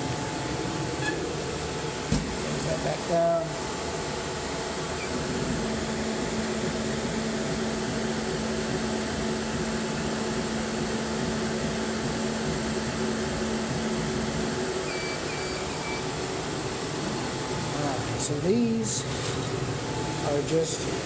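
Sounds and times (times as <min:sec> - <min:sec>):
exhaust fan whirring: 0:00.0 - 0:21.0.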